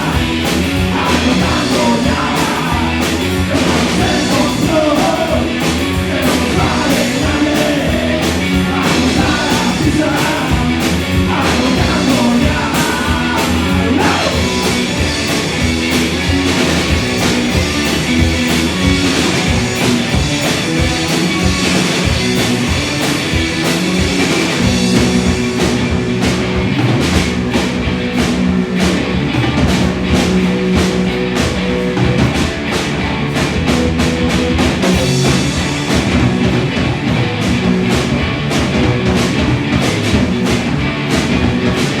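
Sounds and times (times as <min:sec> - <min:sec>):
bass guitar: 0:00.0 - 0:42.0
drum kit: 0:00.0 - 0:42.0
electric guitars: 0:00.0 - 0:42.0.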